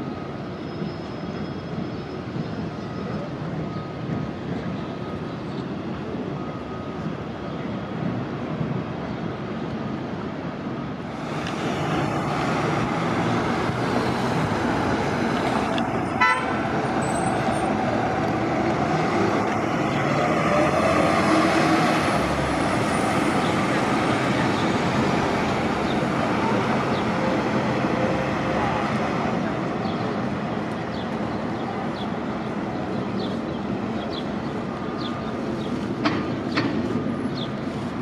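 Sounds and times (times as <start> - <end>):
buses running: 0.0 - 38.0.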